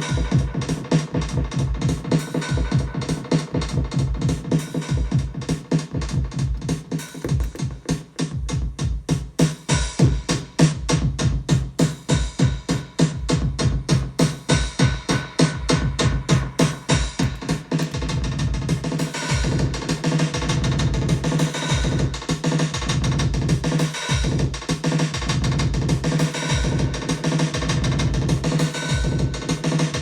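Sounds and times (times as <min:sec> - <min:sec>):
drum machine groove with echo: 0:00.0 - 0:30.0.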